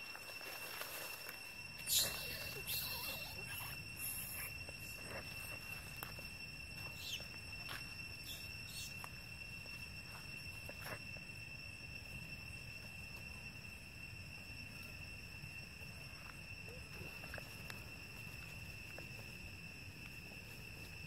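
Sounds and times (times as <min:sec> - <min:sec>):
high-pitched insect drone: 0:00.0 - 0:21.0
insect ticks and chirps: 0:00.0 - 0:21.0.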